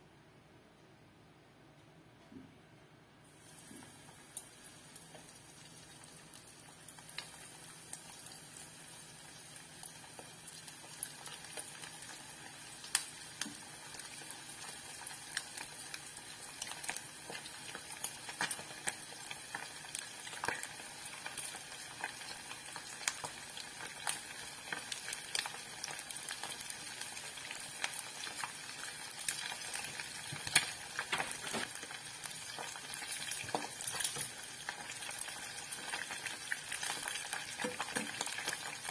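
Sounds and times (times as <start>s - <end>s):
chicken deep-frying in oil: 3.3s - 38.9s.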